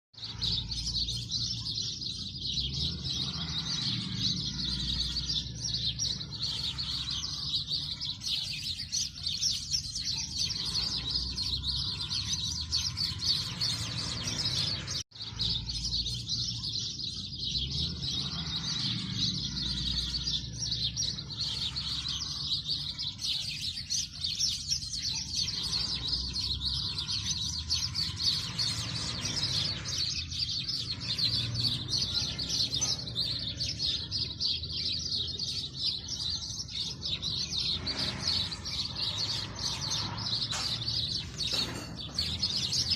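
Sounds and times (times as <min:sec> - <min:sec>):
small birds chirping and twittering: 0:00.0 - 0:42.9.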